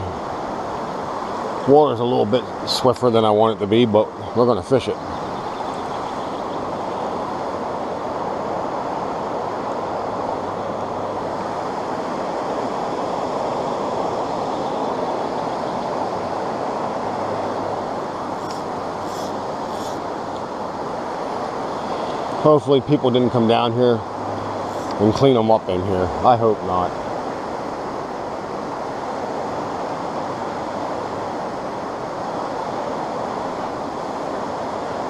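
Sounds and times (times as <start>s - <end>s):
creek water rushing: 0.0s - 35.0s.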